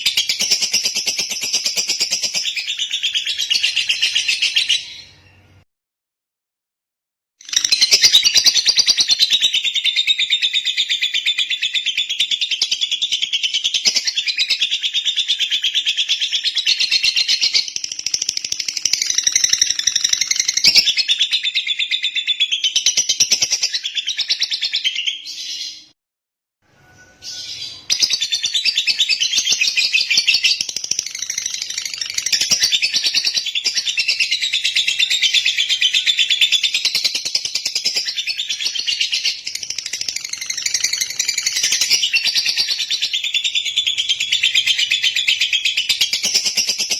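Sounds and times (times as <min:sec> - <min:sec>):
lovebird chattering song: 0:07.4 - 0:25.9, 0:27.2 - 0:46.9.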